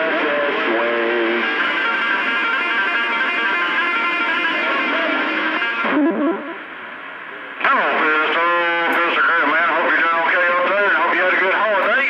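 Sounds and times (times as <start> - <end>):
electric guitar over radio speaker: 0.0 - 12.0.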